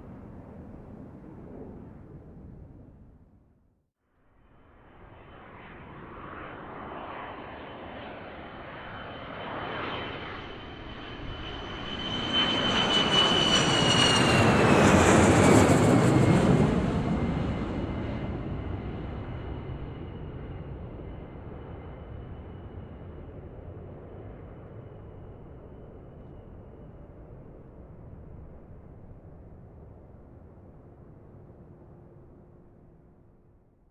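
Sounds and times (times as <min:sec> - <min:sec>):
jet airplane flying past: 0:04.5 - 0:33.4.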